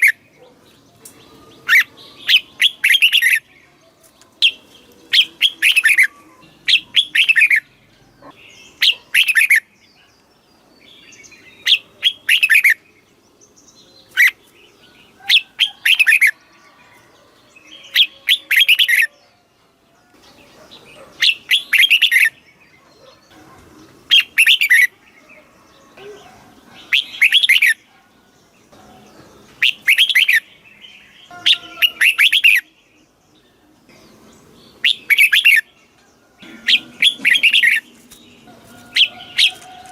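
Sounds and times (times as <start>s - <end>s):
bird singing warbling phrases: 0.0s - 16.8s, 17.6s - 19.4s, 20.0s - 39.9s.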